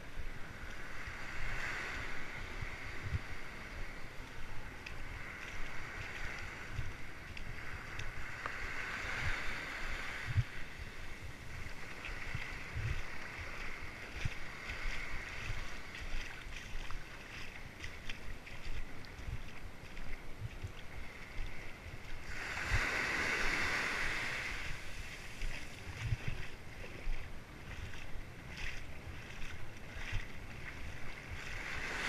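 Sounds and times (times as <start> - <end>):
small waves on sandy shore: 0.0 - 32.0
wind buffeting microphone: 0.0 - 32.0.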